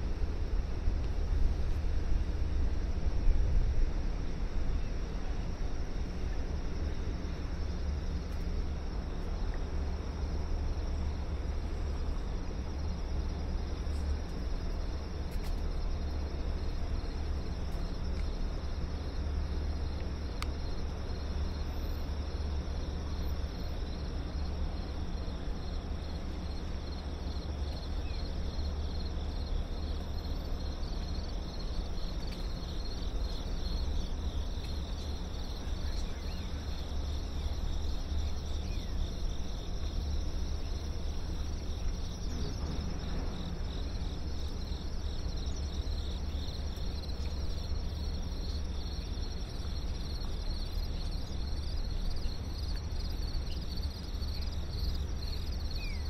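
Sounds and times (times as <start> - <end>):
low city rumble: 0.0 - 56.0
insects chirring: 4.2 - 56.0.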